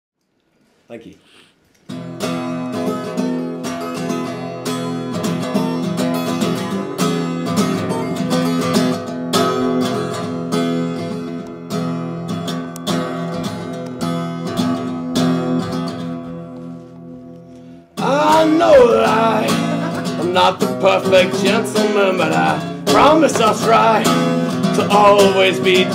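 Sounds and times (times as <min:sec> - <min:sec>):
acoustic guitar strumming: 0:01.9 - 0:25.9.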